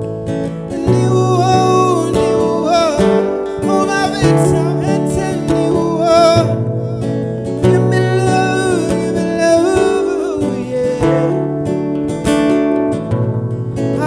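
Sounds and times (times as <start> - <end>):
acoustic guitar: 0.0 - 14.0
man singing: 0.5 - 11.8.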